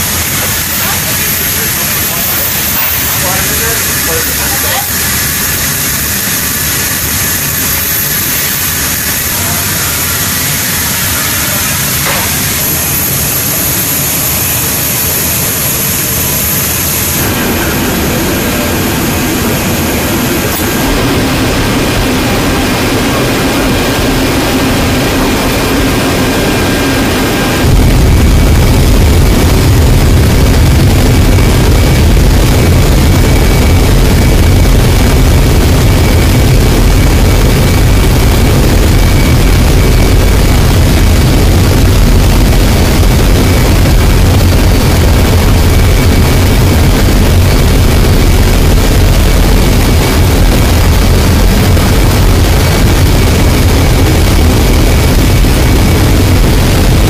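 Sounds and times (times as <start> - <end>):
jet engine whine and rumble: 0.0 - 57.0.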